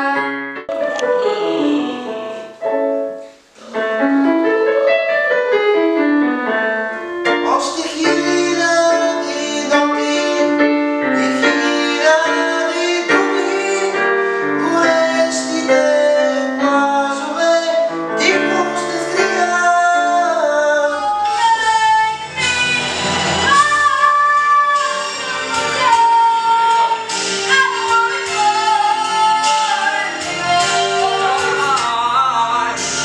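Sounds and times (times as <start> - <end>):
person singing: 0.0 - 2.6, 7.4 - 33.0
piano accompaniment: 0.0 - 33.0.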